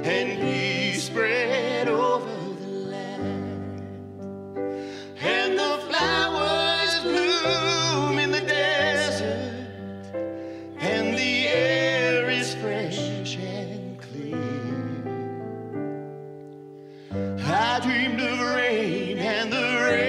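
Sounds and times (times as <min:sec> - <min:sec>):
keyboard chords: 0:00.0 - 0:20.0.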